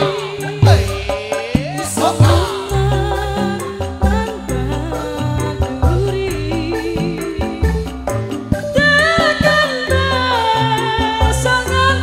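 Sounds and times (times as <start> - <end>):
band playing drums keyboard gamelan: 0.0 - 12.0
woman singing: 0.0 - 12.0.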